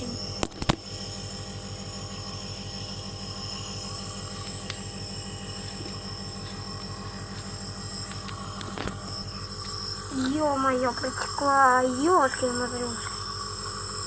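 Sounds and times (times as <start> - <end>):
machine droning with fast pulse: 0.0 - 14.0.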